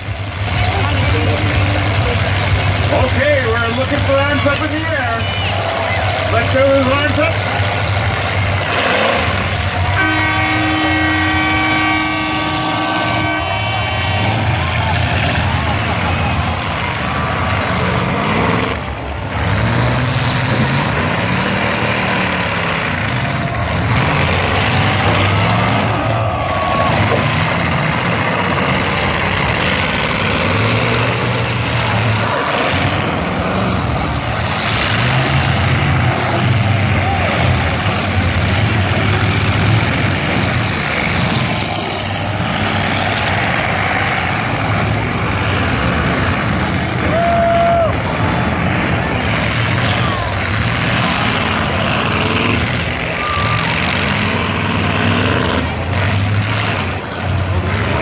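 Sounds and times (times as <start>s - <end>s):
car engines revving hard: 0.0s - 58.0s
dense continuous din: 0.0s - 58.0s.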